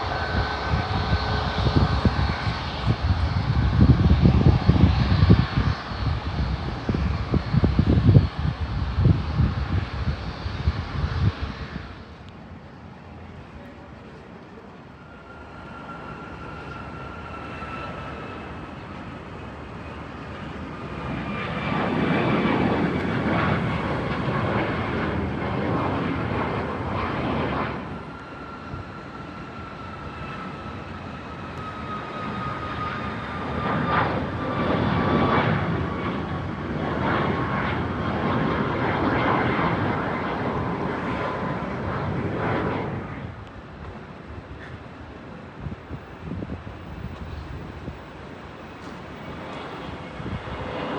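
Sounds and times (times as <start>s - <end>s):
jet engines passing: 0.0s - 50.9s.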